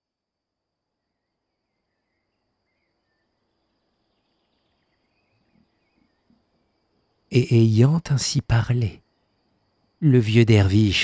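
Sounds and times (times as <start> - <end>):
faint chirping: 0.5 - 11.0.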